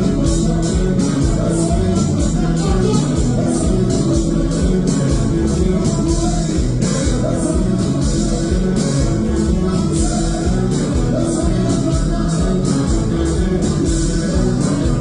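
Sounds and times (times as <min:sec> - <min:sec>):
drum beat with cymbals: 0:00.0 - 0:15.0
guitar and bass: 0:00.0 - 0:15.0
person singing: 0:00.0 - 0:15.0.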